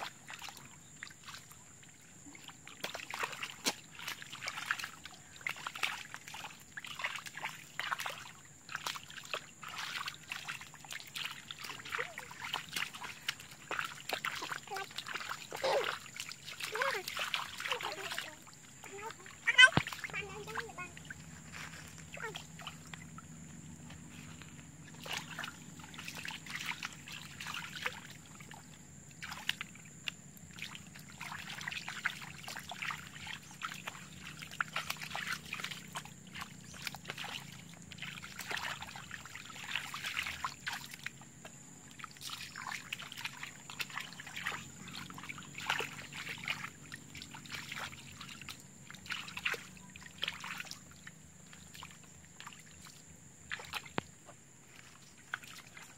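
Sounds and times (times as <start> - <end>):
feet sloshing through muddy water: 0.0 - 55.9.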